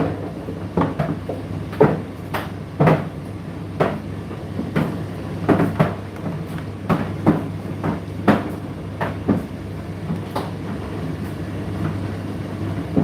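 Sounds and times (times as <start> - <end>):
tumble dryer motor hum: 0.0 - 13.0.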